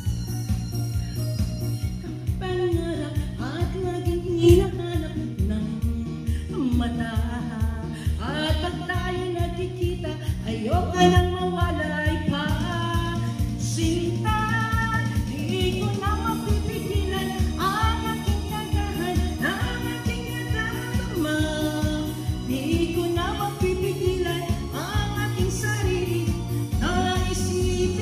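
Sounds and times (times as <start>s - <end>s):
recorded backing track with beat: 0.0s - 28.0s
woman singing karaoke: 0.0s - 28.0s.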